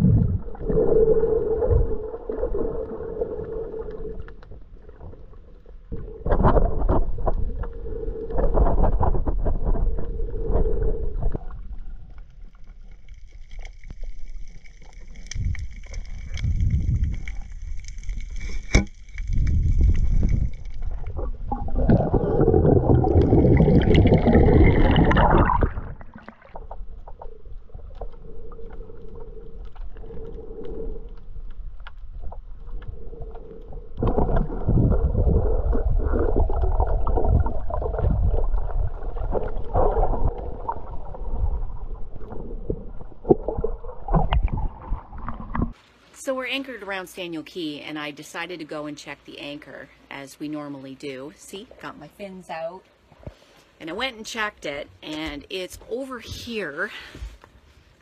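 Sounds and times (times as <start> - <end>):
water rushing and gurgling: 0.0 - 47.0.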